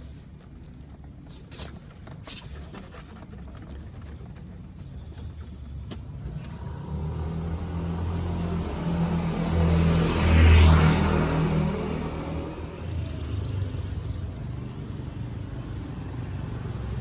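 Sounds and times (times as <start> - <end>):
vehicle engine humming: 3.0 - 17.0.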